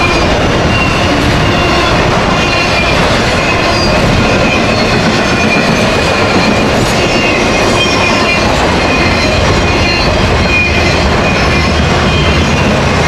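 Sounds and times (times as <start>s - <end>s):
high wheel squeals: 0.0s - 12.8s
freight train rumbling: 0.0s - 13.0s.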